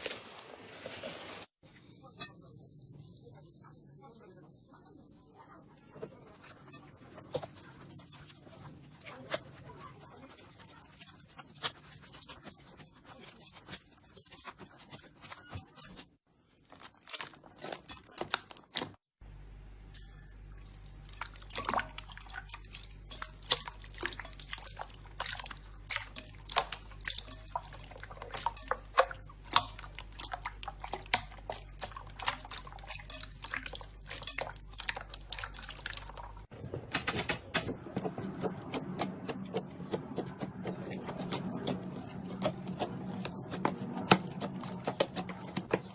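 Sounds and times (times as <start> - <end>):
slime squelching by hand: 6.2 - 19.2, 20.5 - 36.5, 38.0 - 45.9.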